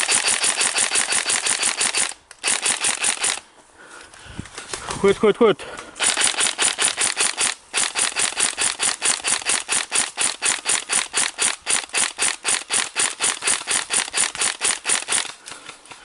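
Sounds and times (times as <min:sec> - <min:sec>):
airsoft gun firing: 0:00.0 - 0:03.4, 0:06.0 - 0:15.4.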